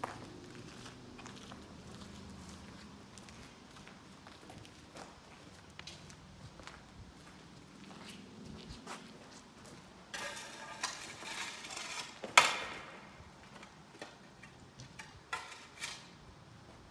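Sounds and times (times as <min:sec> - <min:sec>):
footsteps crunching over rubble: 0:00.0 - 0:16.9.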